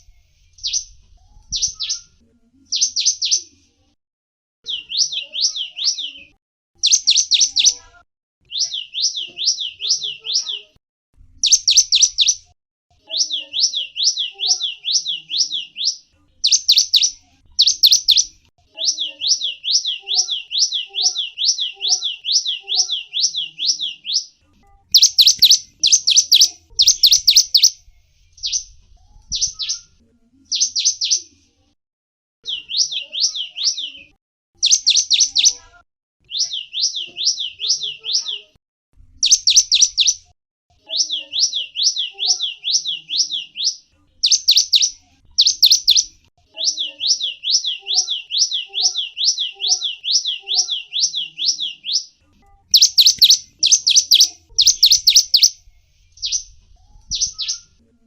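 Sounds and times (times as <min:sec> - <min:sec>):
songbird singing: 0:00.0 - 0:03.5, 0:04.6 - 0:10.8, 0:11.4 - 0:31.3, 0:32.4 - 0:35.6, 0:36.2 - 0:38.6, 0:39.2 - 0:40.2, 0:40.9 - 0:57.8.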